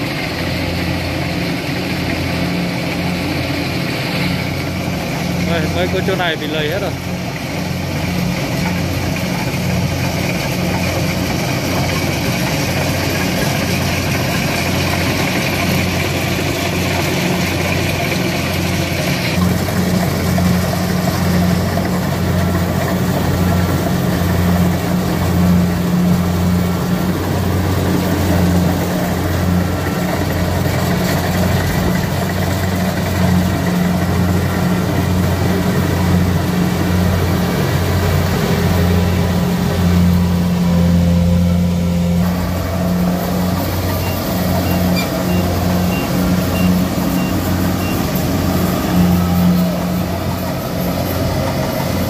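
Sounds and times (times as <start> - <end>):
farm machine engine running: 0.0 - 52.0.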